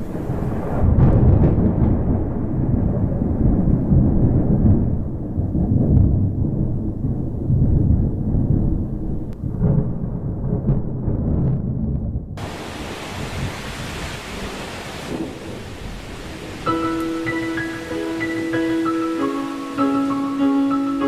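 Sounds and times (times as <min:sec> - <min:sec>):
sharp thunder cracks: 0:00.0 - 0:19.2
thunder rumbling: 0:00.0 - 0:21.0.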